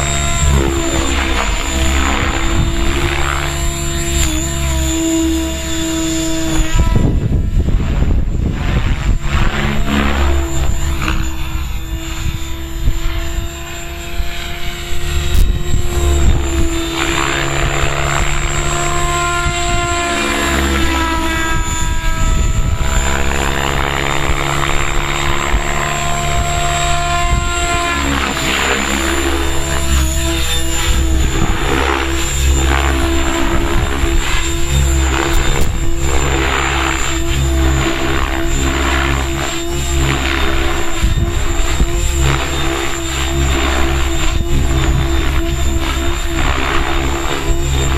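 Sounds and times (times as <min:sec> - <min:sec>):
rc helicopter motor whining: 0:00.0 - 0:47.9
rotor blades rushing: 0:00.0 - 0:47.9
wind rumbling on microphone: 0:00.0 - 0:47.9.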